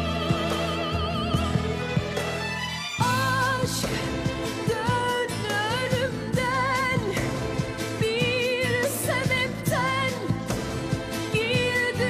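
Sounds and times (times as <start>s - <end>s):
instrumental backing with beat: 0.0s - 12.0s.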